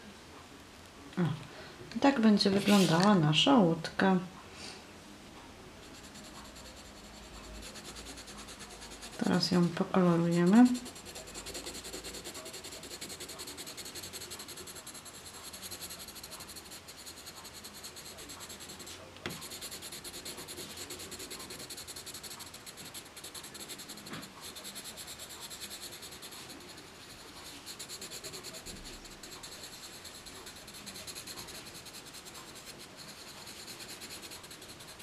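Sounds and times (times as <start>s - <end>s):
colored pencil shading on paper: 2.5s - 3.1s, 5.8s - 35.0s.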